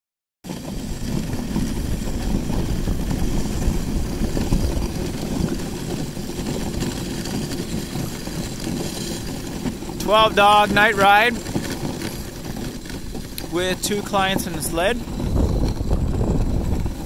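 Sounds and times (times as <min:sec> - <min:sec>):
sled runners rumbling on snow: 0:00.4 - 0:17.0.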